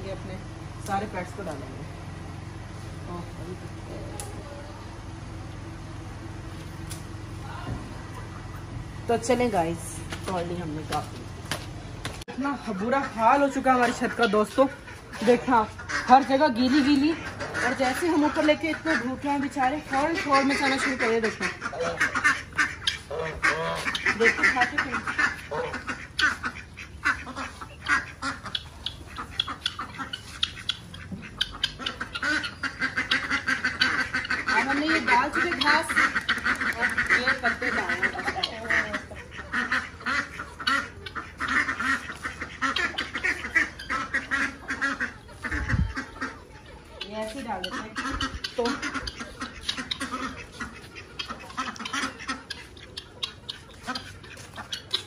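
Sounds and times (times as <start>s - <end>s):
ducks quacking: 0.0s - 55.0s.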